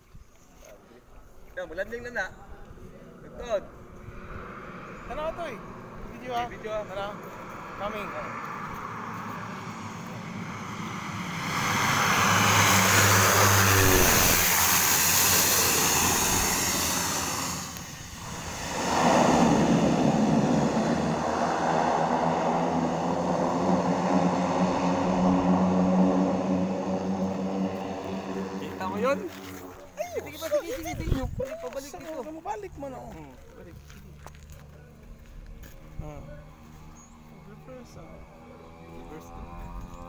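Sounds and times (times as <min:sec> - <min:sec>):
propeller aircraft passing: 0:01.2 - 0:31.1, 0:32.2 - 0:40.0
steady engine drone: 0:02.0 - 0:30.8, 0:32.8 - 0:40.0.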